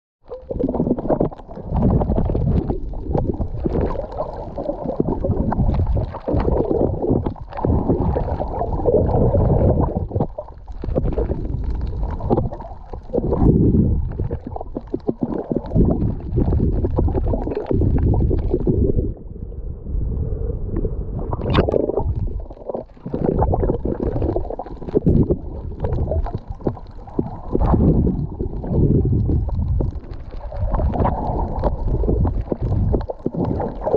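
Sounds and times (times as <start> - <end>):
water splashes: 0.3 - 19.2, 21.2 - 33.9
muffled underwater sloshing: 0.3 - 33.9.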